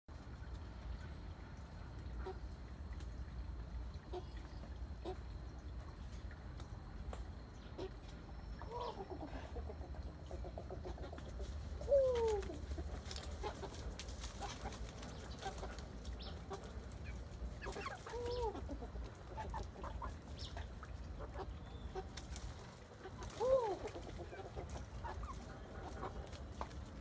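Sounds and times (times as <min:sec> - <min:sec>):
chickens clucking: 0:04.0 - 0:27.0.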